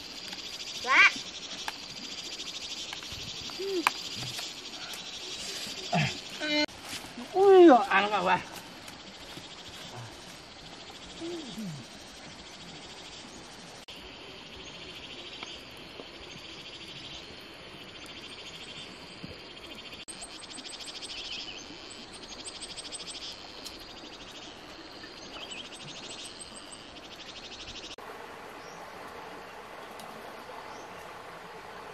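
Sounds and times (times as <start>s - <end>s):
insects chirring: 0.0s - 29.6s.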